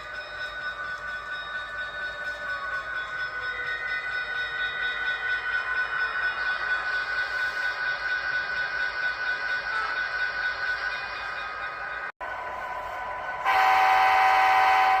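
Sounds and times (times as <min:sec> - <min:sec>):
high steady whining tones: 0:00.0 - 0:15.0
train running: 0:00.0 - 0:15.0.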